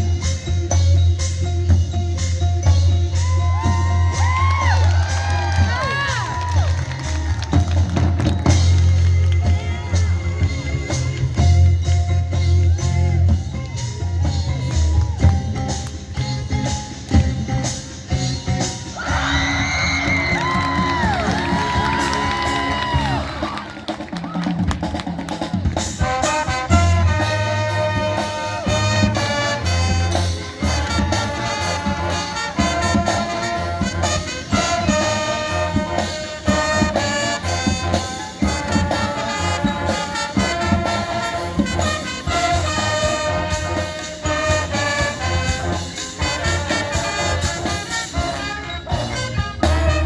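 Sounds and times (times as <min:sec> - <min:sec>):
drums pounding bass notes: 0:00.0 - 0:50.0
marching band playing brass: 0:03.2 - 0:50.0.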